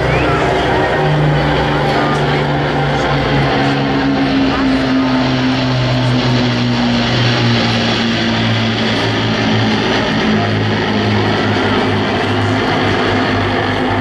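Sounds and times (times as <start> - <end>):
piston aircraft engines droning overhead: 0.0 - 14.0.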